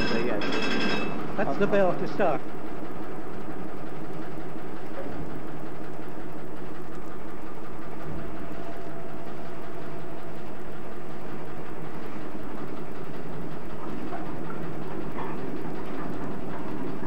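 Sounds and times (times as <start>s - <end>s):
steam engine running: 0.0s - 17.0s.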